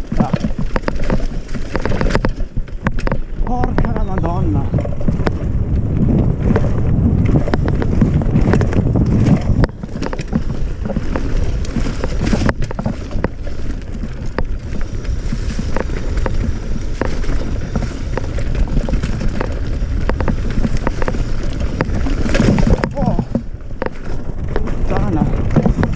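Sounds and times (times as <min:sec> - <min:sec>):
bike rattling over bumps: 0:00.0 - 0:25.9
tyres rumbling over dirt trail: 0:00.0 - 0:25.9
wind buffeting microphone: 0:00.0 - 0:25.9.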